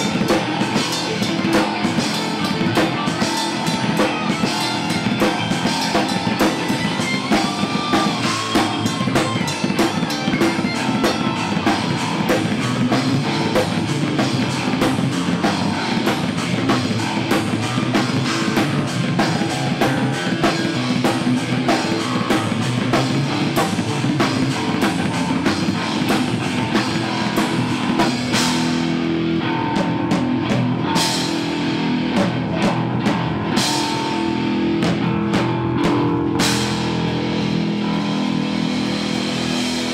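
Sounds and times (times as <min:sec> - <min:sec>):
metal band playing live: 0:00.0 - 0:39.9.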